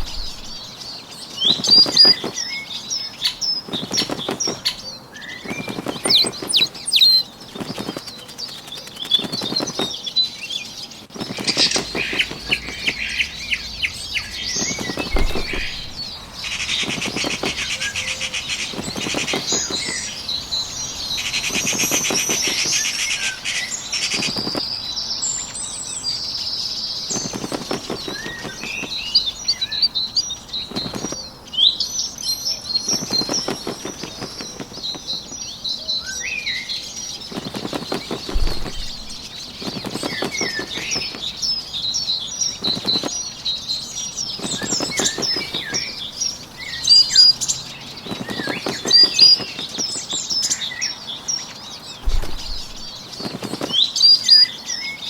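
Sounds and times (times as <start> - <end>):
bird wings flapping: 0.0 - 25.0, 27.0 - 31.3, 32.4 - 35.6, 36.8 - 43.3, 44.0 - 50.8, 51.8 - 54.4
small birds chirping and trilling: 0.0 - 55.0.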